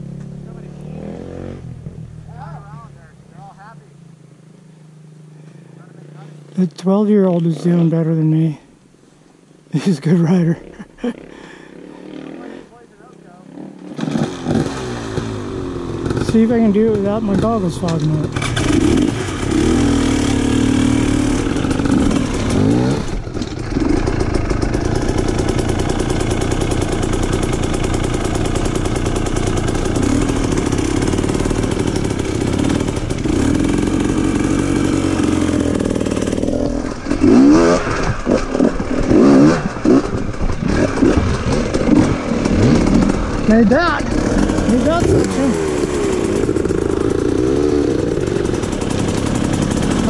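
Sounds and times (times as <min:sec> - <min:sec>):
dirt bike engine revving: 0:00.0 - 0:08.2, 0:09.8 - 0:50.0.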